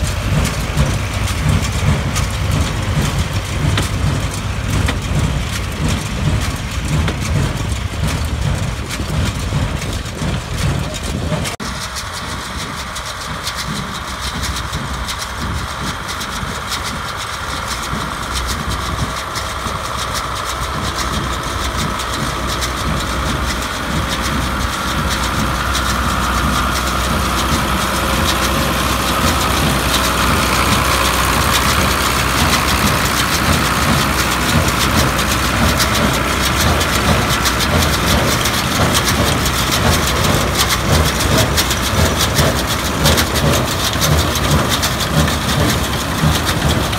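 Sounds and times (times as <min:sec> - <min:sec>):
hay baler working: 0:00.0 - 0:46.9
tractor engine running: 0:00.0 - 0:46.9.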